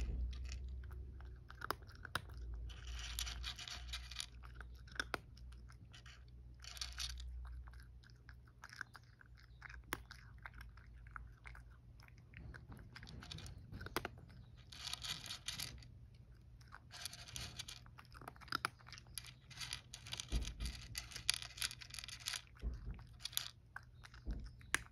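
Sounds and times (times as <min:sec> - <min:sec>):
cat crunching dry kibble: 0:00.0 - 0:24.9.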